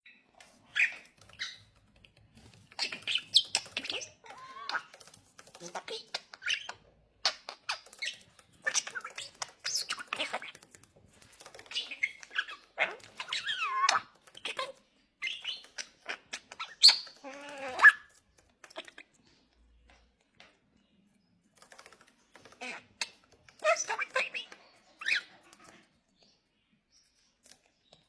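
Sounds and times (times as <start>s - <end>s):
parrot calls and chatter: 0.0s - 28.0s.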